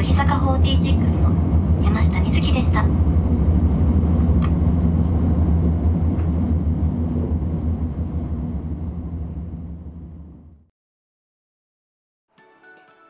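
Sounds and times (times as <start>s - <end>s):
train running rumble: 0.0s - 10.7s.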